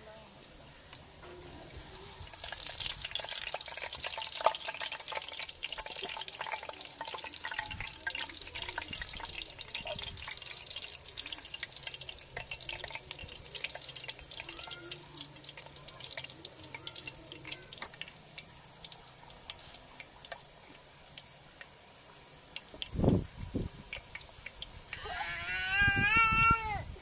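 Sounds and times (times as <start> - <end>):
food sizzling in hot oil: 0.2 - 27.0.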